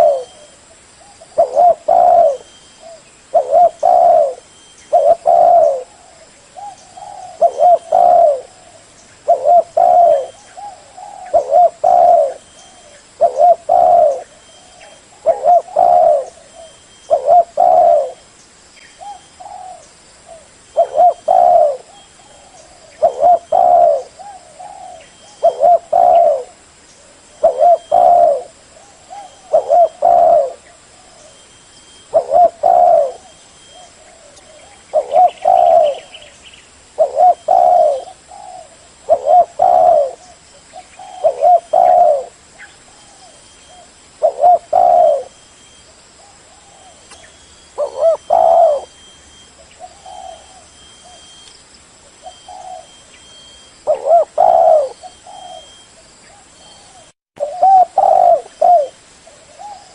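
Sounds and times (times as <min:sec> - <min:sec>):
dove cooing: 0:00.0 - 0:18.3, 0:19.0 - 0:51.4, 0:52.1 - 0:59.9.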